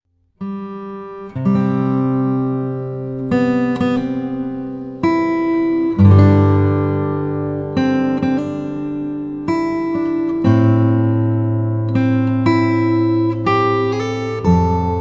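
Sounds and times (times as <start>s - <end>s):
acoustic guitar chords: 0.2s - 15.0s.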